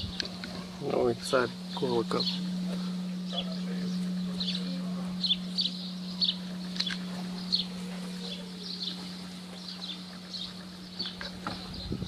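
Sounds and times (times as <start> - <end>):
large bell humming: 0.0 - 12.0
small birds chirping: 0.0 - 12.0.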